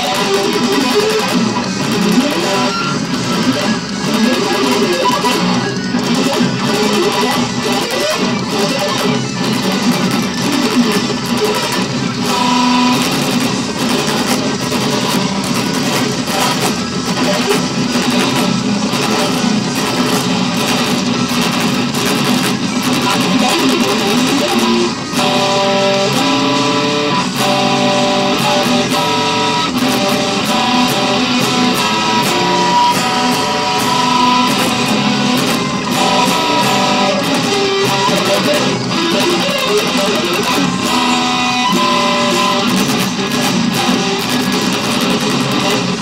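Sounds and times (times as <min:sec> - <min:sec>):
electric guitar metal instrumental: 0:00.0 - 0:46.0.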